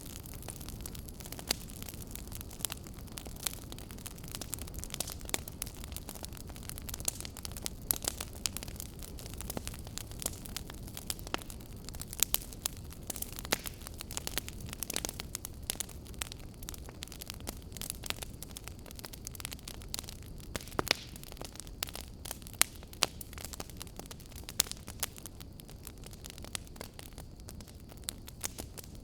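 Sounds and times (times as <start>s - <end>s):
low fire rumble: 0.0s - 29.0s
wood fire crackling: 0.0s - 29.0s.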